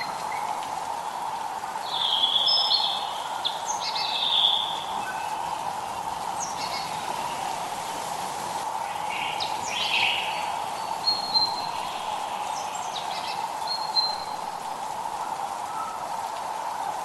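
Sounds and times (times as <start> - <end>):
drizzling rain hiss: 0.0 - 17.0
birds calling: 1.9 - 16.0.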